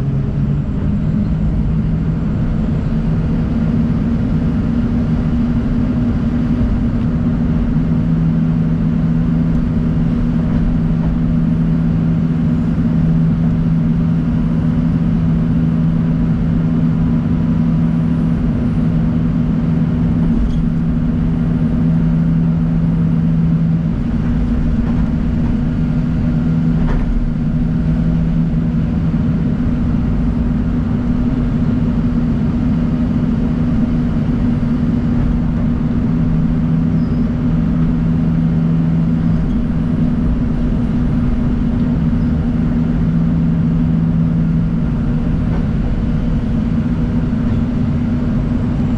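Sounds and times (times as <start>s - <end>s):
excavator diesel engine drone: 0.0s - 48.9s.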